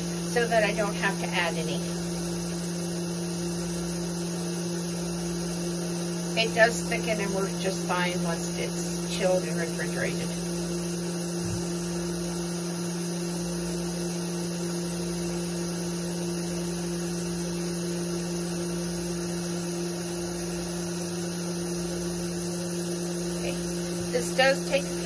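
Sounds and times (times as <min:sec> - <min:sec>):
cream separator motor humming: 0:00.0 - 0:25.0.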